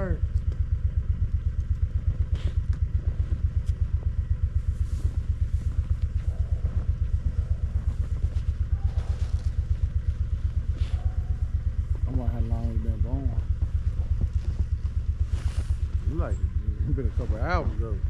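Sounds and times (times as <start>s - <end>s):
engine idling chugging: 0.0s - 18.0s.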